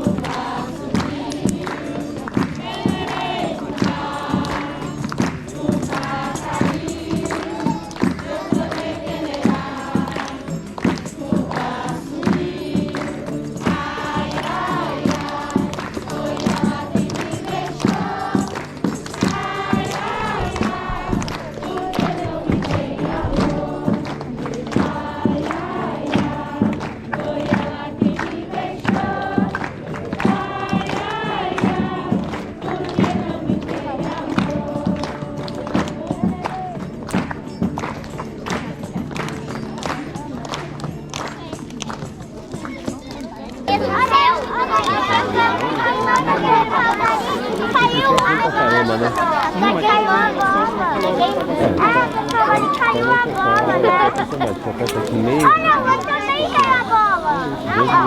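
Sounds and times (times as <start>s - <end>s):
steady percussive beat: 0.0s - 35.0s, 43.7s - 58.0s
group of voices singing: 0.0s - 37.4s, 43.6s - 58.0s.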